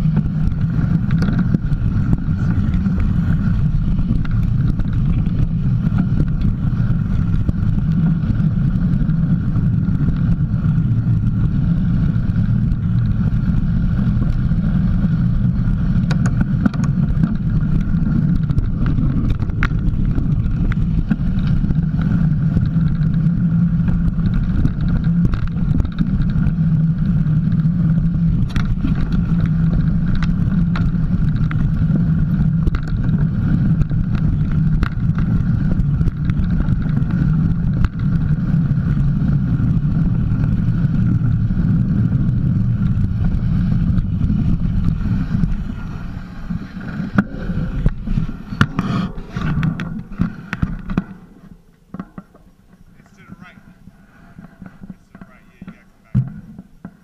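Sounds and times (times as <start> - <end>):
bike clicking and knocking: 0.0 - 46.2, 47.1 - 52.8
bike tyres rumbling on dirt: 0.0 - 57.0
wind noise: 0.0 - 57.0.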